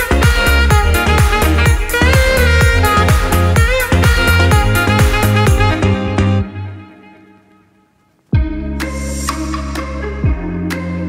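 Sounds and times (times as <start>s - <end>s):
background music with drum beat: 0.0s - 6.4s, 8.3s - 11.0s.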